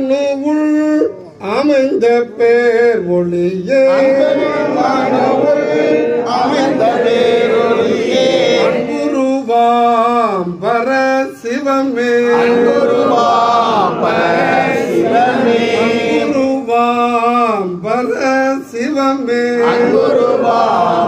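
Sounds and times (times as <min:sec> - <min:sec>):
men singing a devotional chant: 0:00.0 - 0:21.0.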